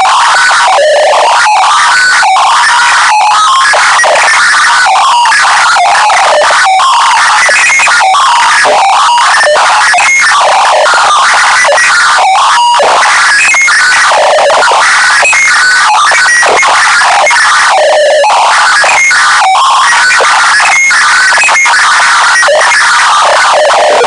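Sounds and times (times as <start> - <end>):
harsh clipped distortion: 0.0 - 24.0.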